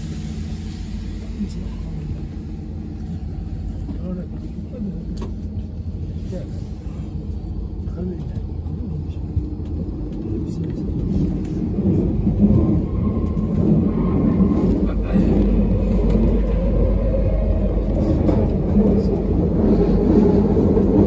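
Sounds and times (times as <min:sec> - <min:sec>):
train rumble: 0:00.0 - 0:21.0
passengers' voices: 0:00.6 - 0:21.0.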